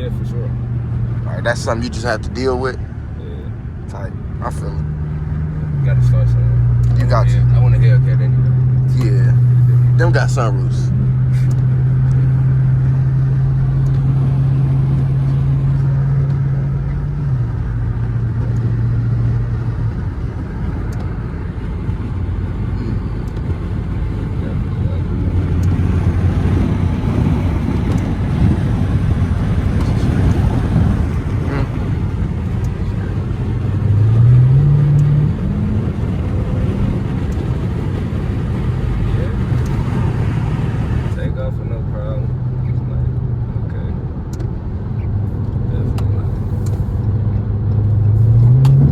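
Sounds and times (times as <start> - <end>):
car engine drone inside cabin: 0.0 - 48.9
road and tyre noise: 0.0 - 48.9.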